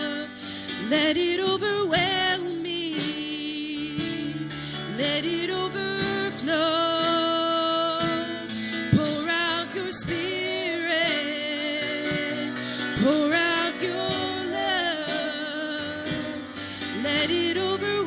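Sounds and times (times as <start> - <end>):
instrumental backing: 0.0 - 18.0
person singing gospel song: 0.0 - 18.0.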